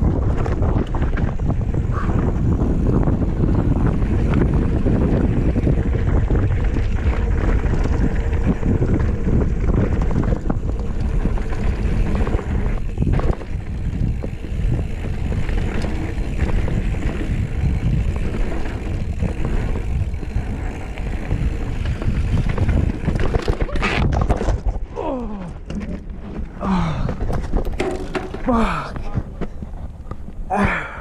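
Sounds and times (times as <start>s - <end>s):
bike rattling over rocky ground: 0.0s - 31.0s
wind rushing over microphone: 0.0s - 31.0s.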